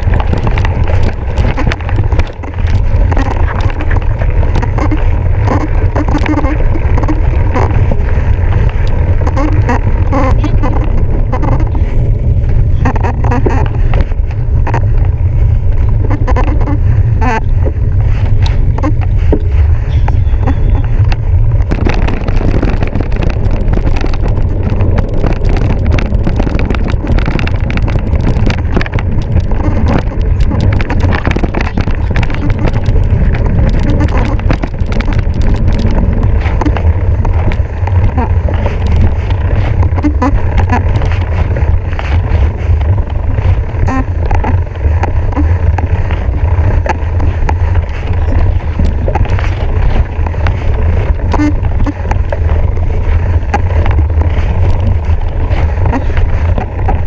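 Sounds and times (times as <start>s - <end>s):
mountain bike rattling: 0.0s - 57.0s
wind rumble on microphone: 0.0s - 57.0s.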